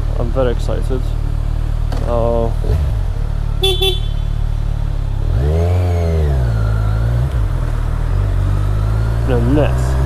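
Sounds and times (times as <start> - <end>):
motorcycle engine revving: 0.1 - 10.0.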